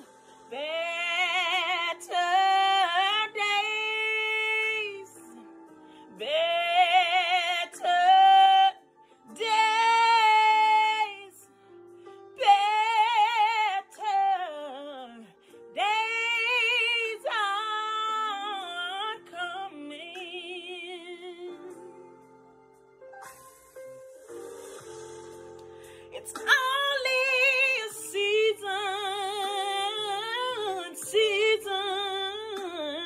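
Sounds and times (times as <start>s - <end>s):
woman singing a gospel ballad: 0.0s - 11.5s, 12.4s - 22.3s, 26.1s - 33.0s.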